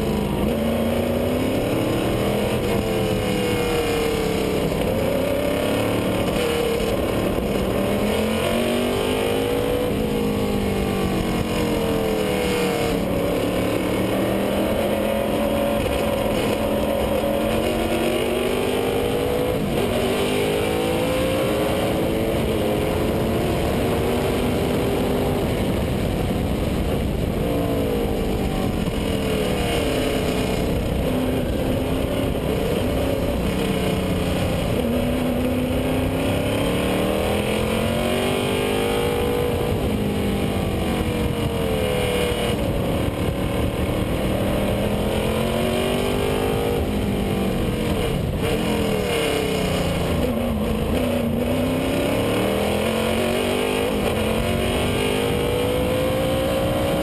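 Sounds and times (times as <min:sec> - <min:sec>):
racing car engine revving: 0:00.0 - 0:57.0
steady rush of noise: 0:00.0 - 0:57.0.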